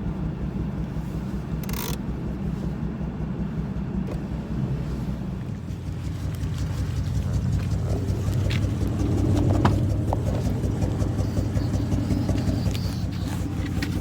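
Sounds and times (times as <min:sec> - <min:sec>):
engine exhaust pulsing: 0:00.0 - 0:14.0.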